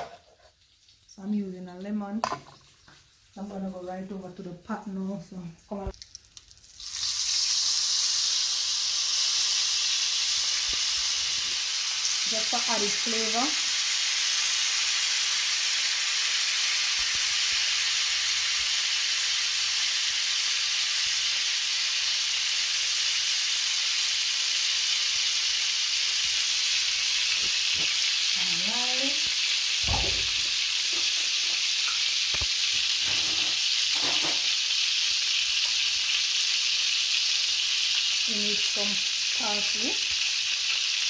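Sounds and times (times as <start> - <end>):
butter sizzling in skillet: 0.0 - 5.0, 5.7 - 41.0.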